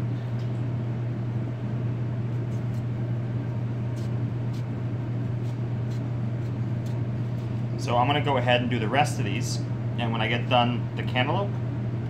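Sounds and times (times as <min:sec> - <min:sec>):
kitchen machinery hum: 0:00.0 - 0:12.0.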